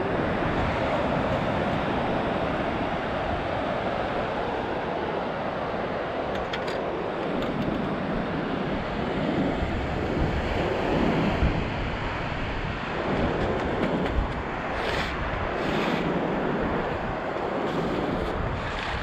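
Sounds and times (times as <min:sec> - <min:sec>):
ocean surf washing: 0:00.0 - 0:19.0
wind on microphone: 0:00.0 - 0:19.0.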